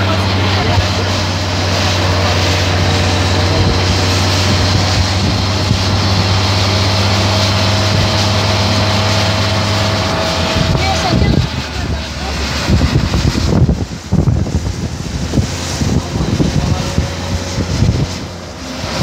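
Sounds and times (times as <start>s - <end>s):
car engine drone: 0.0s - 19.0s
road and wind noise: 0.0s - 19.0s.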